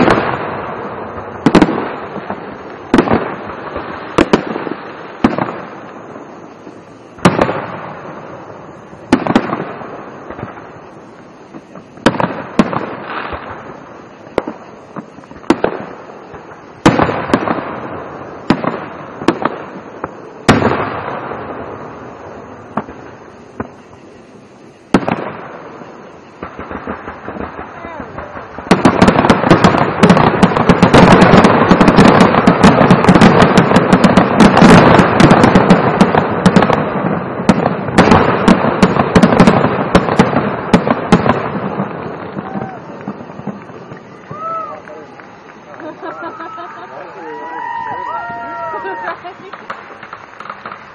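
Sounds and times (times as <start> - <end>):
fireworks bursting with echo: 0.0 - 50.9.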